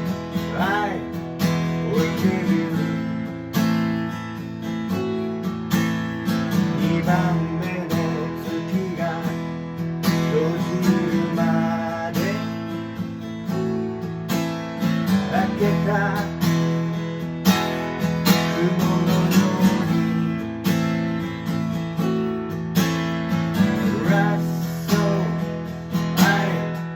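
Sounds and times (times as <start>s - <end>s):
acoustic guitar strumming chords: 0.0s - 26.9s.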